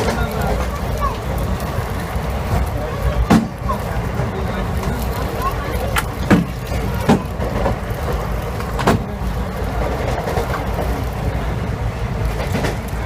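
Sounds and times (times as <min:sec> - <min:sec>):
train rumbling from inside coach: 0:00.0 - 0:13.0.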